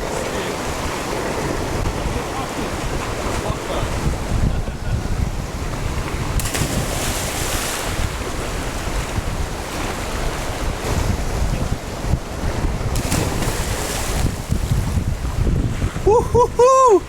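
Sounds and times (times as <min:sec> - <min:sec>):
ocean waves washing: 0:00.0 - 0:17.0
wind buffeting microphone: 0:00.0 - 0:17.0.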